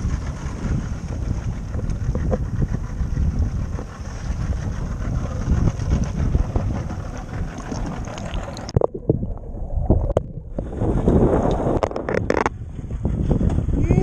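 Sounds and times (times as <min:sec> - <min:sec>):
choppy water sloshing: 0:00.0 - 0:13.4
wind buffeting microphone: 0:00.0 - 0:14.0.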